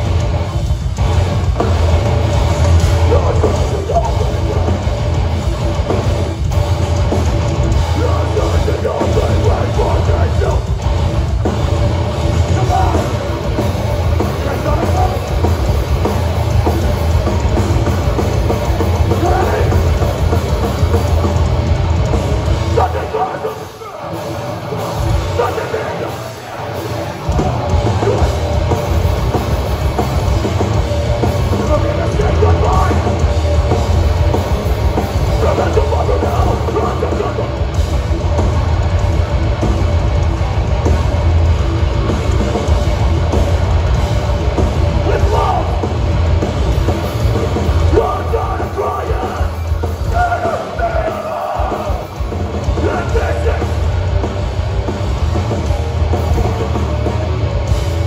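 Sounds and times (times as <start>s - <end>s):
heavy distorted rock band: 0.0s - 58.0s
pounding drum kit: 0.0s - 58.0s.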